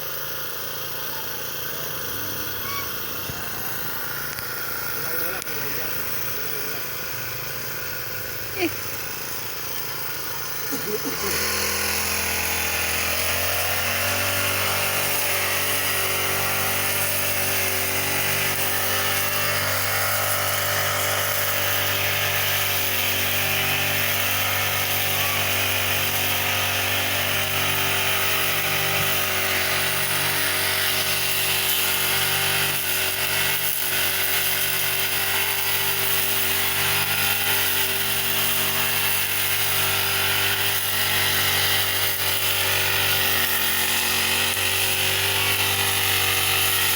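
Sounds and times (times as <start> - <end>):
brush cutter running at high speed: 0.0 - 46.9.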